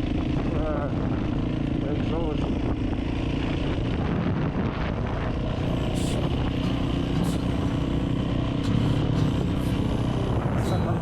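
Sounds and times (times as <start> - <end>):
dirt bike engine running: 0.0 - 11.0
road and wind noise: 0.0 - 11.0.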